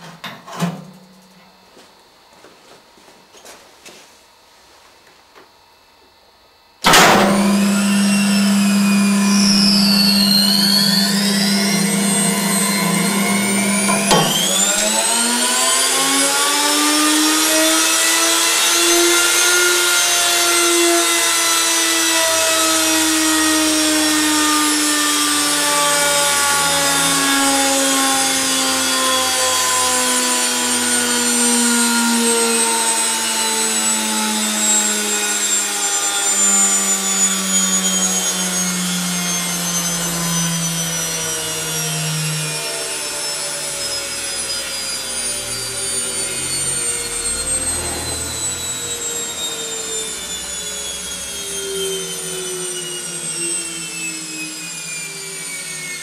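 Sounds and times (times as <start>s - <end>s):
washing machine motor whining: 6.8s - 56.0s.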